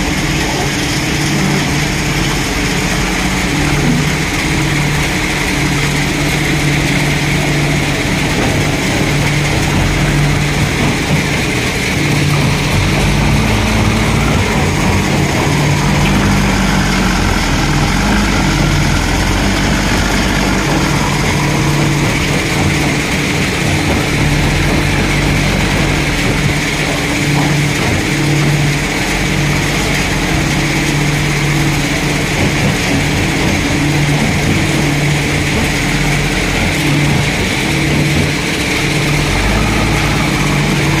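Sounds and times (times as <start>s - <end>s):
diesel engine under load: 0.0s - 41.0s
loader bucket scooping sand: 0.0s - 41.0s.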